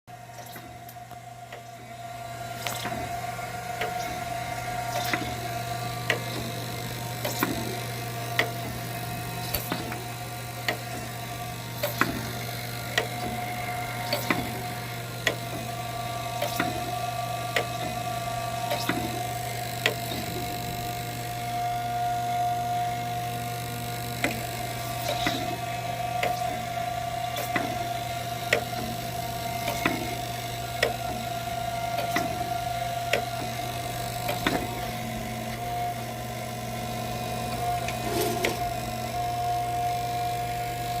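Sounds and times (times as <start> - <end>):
grinder motor hum and whine: 0.1 - 41.0.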